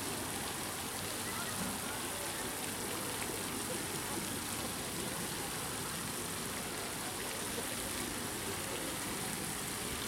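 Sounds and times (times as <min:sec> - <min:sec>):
fountain spray pattering on water: 0:00.0 - 0:10.0.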